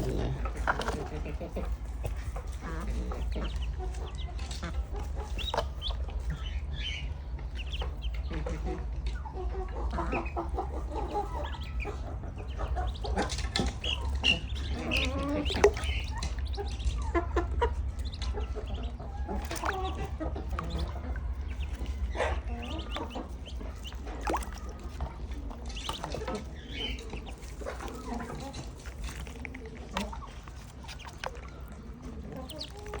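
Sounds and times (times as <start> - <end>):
chickens clucking: 0.0 - 33.0
steady low hum: 0.0 - 33.0.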